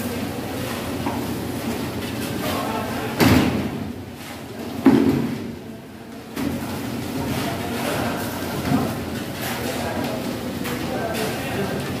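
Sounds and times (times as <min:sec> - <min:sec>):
concrete pour background noise: 0:00.0 - 0:12.0.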